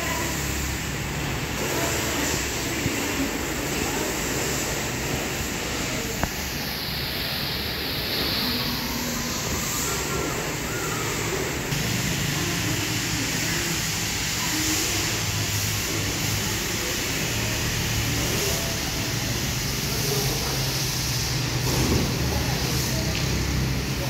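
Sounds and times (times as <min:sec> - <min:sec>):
broad hiss: 0:00.0 - 0:24.0
faint distant voices: 0:00.0 - 0:24.0.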